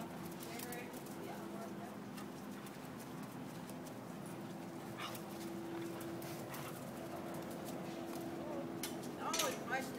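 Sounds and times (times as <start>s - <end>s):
steady background hum: 0.0s - 9.9s
dogs making soft noises: 0.2s - 8.8s.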